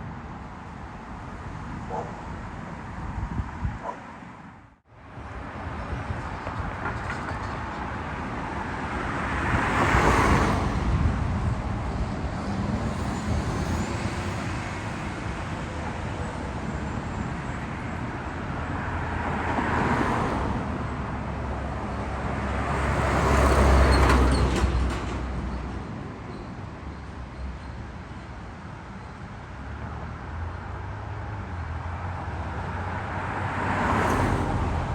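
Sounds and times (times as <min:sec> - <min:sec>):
low traffic rumble: 0:00.0 - 0:34.9
vehicles passing: 0:00.0 - 0:34.9.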